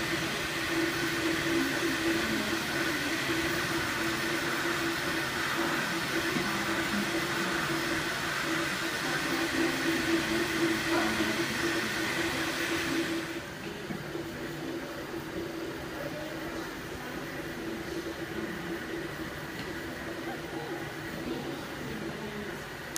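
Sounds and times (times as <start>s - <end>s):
steady mechanical whir: 0.0s - 22.9s.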